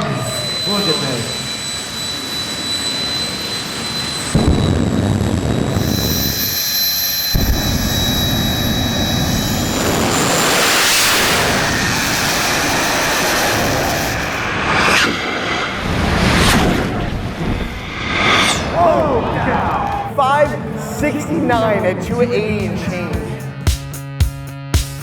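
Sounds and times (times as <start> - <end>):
high whine: 0.0 - 25.0.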